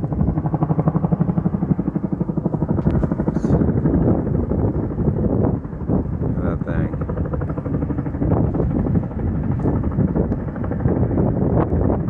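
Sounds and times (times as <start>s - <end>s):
helicopter rotor blades beating: 0.0s - 12.0s.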